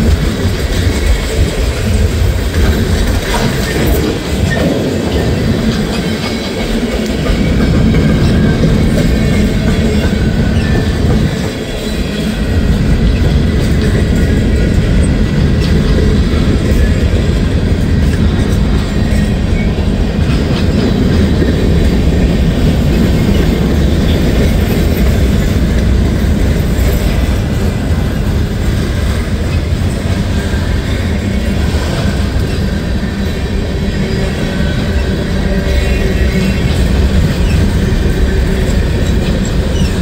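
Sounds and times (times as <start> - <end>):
freight train rumbling: 0.0 - 40.0
wheels clicking over rail joints: 0.0 - 40.0.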